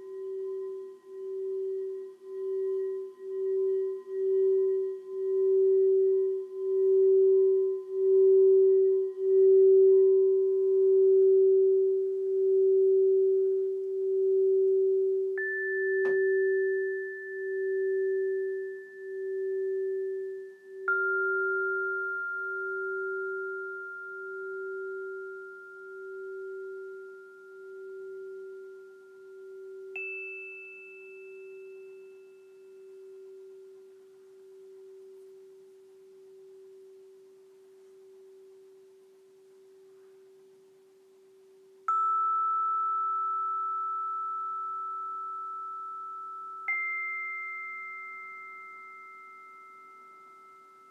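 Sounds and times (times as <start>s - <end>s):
high bell-like notes: 0.0s - 35.3s, 41.9s - 50.9s
singing bowl low tone: 0.0s - 50.9s.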